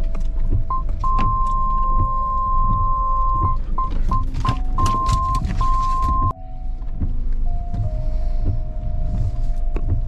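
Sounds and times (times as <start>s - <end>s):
rain tapping: 0.0s - 10.0s
van engine rumble: 0.0s - 10.0s
windscreen wipers sweeping: 0.0s - 10.0s.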